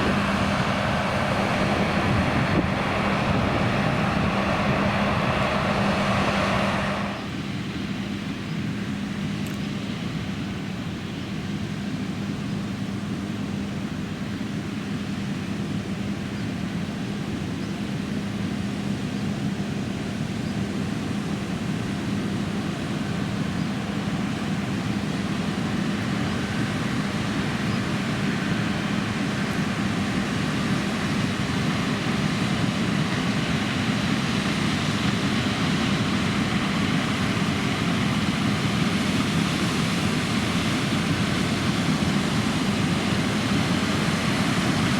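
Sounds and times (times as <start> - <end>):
combine harvester running: 0.0 - 44.9.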